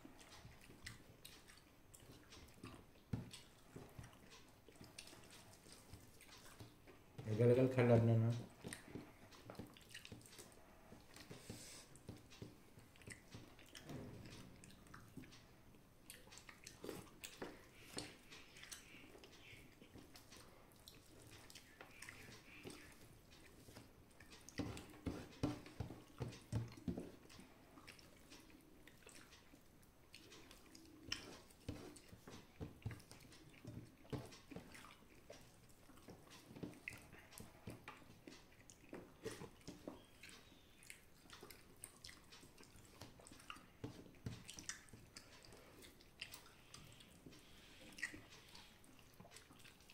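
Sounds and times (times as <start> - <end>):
person chewing: 0.0 - 7.0, 8.5 - 49.9.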